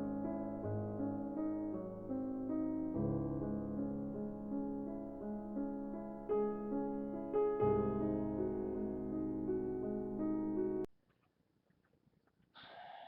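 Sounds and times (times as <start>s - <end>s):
piano music: 0.0s - 10.9s.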